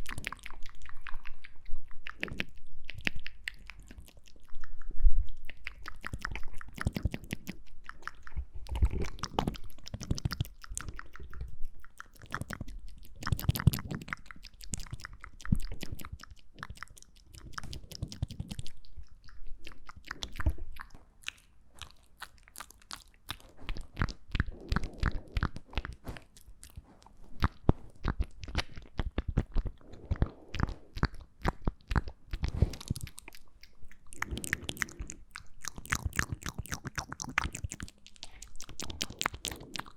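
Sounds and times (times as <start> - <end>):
wet mouth clicks and smacks: 0.0 - 39.9.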